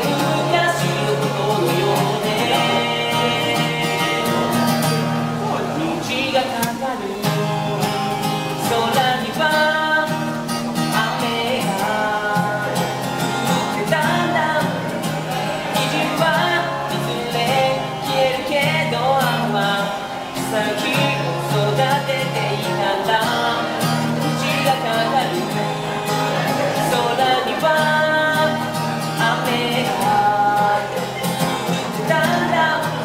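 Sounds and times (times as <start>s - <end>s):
man singing: 0.0s - 33.0s
strummed acoustic guitar: 0.0s - 33.0s.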